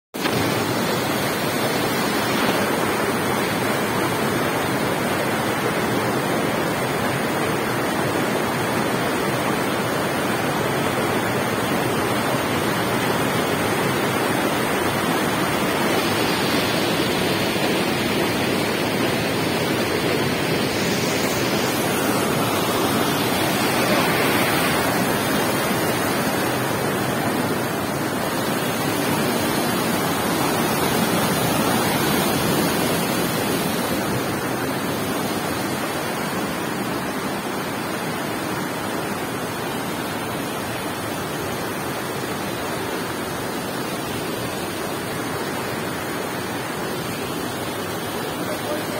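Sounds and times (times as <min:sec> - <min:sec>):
river rushing over boulders: 0:00.2 - 0:48.9.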